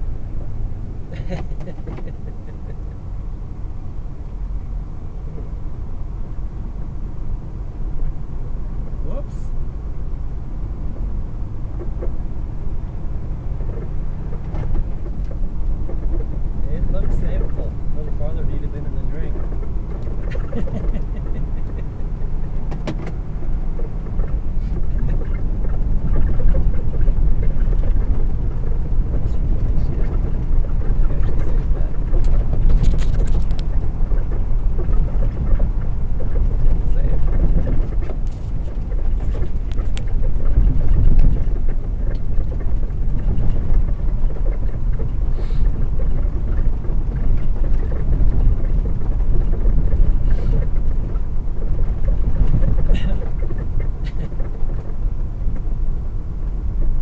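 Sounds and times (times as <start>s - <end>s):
truck engine and road rumble: 0.0s - 57.0s
light rattles: 10.5s - 57.0s.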